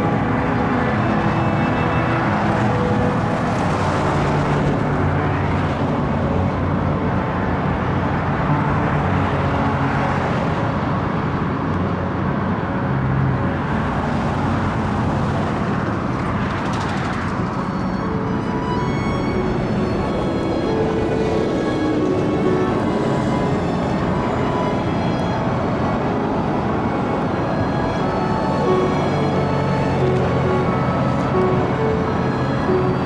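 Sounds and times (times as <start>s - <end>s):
freeway traffic: 0.0s - 33.0s.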